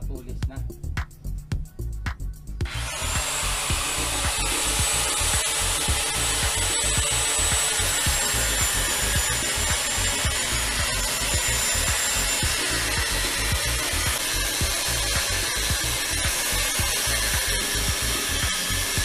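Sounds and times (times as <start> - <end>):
angle grinder grinding steel: 2.6 - 19.0.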